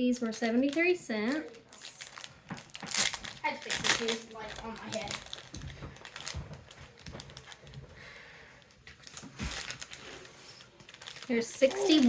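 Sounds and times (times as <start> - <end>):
plastic packaging rustling: 0.4 - 12.0.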